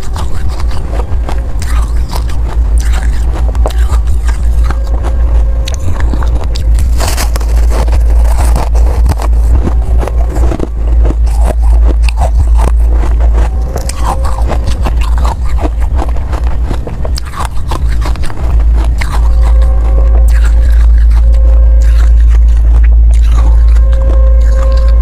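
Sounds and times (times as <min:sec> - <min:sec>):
ice being crunched: 0:00.0 - 0:25.0
steady low rumble: 0:00.0 - 0:25.0.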